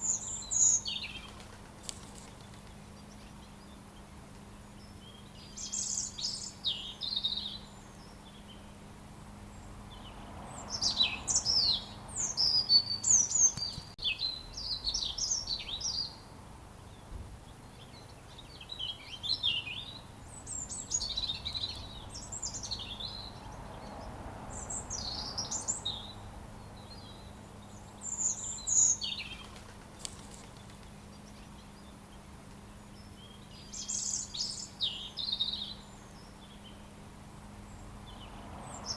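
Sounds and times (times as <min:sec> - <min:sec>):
robin singing: 0:00.0 - 0:08.8, 0:09.5 - 0:16.3, 0:16.9 - 0:38.9.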